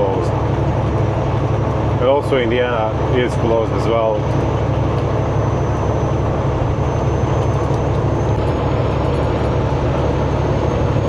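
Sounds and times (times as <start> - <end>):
truck engine and tyres droning: 0.0 - 11.0.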